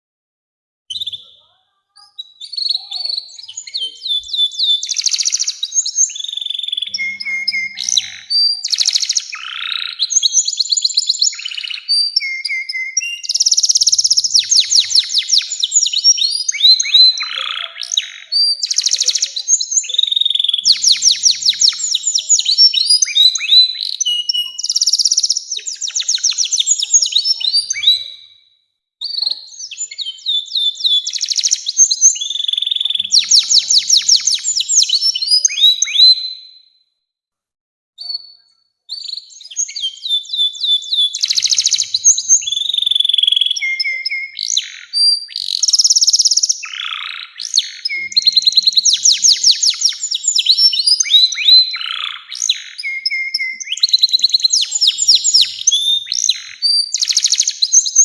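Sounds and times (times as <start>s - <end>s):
canary singing trills: 0.9s - 28.4s, 29.0s - 36.6s, 38.0s - 58.0s.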